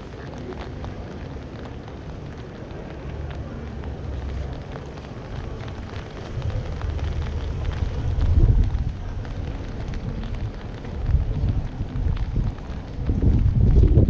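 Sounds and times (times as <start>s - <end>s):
faint murmur of voices: 0.0s - 14.0s
low street rumble: 0.0s - 14.0s.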